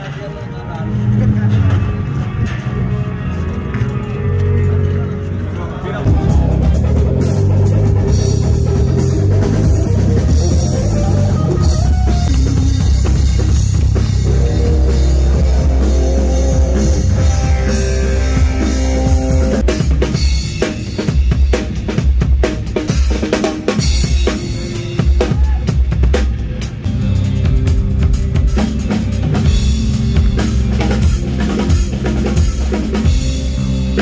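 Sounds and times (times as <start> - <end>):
bass guitar line: 0.0 - 34.0
drum kit: 6.0 - 34.0
electric guitar: 6.0 - 34.0
rock band playing: 6.0 - 34.0.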